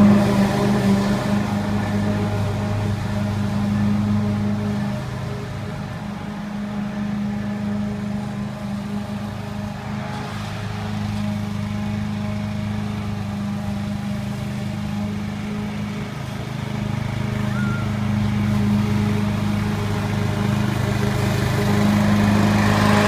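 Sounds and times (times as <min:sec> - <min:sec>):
lawn mower engine running: 0:00.0 - 0:23.0.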